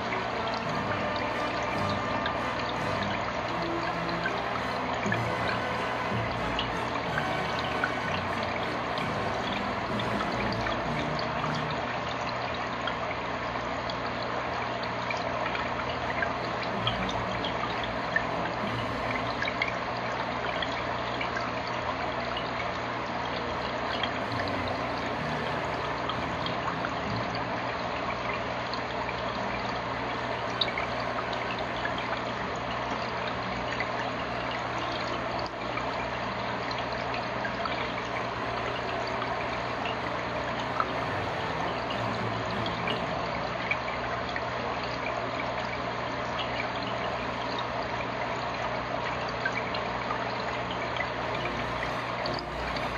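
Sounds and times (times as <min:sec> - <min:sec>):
aquarium water trickling: 0:00.0 - 0:52.9
pump hum: 0:00.0 - 0:52.9.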